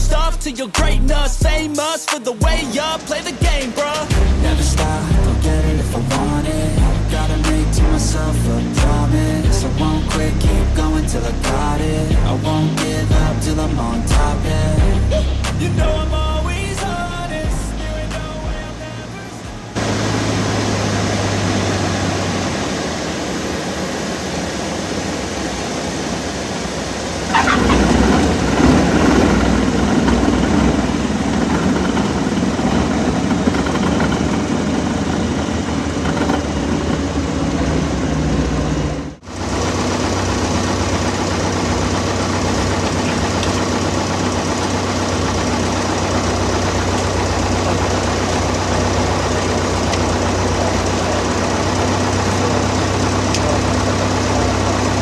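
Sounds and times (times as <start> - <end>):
aircraft engine drone from cabin: 0.0 - 55.0.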